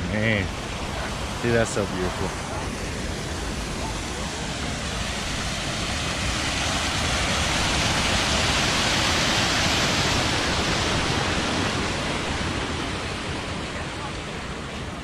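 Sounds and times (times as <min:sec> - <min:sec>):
water rushing over small dam: 0:00.0 - 0:15.0.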